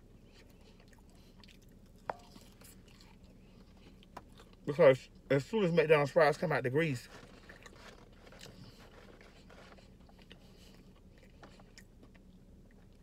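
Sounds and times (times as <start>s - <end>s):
chewing fries: 0.1s - 5.5s, 7.0s - 13.0s.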